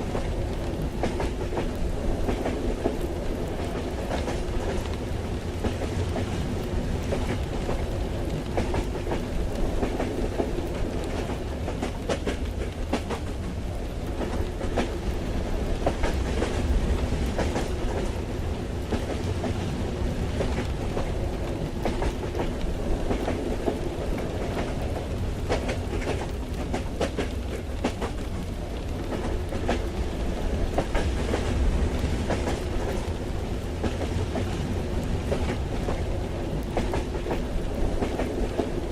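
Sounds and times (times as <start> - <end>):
low rumble of moving train: 0.0 - 38.9.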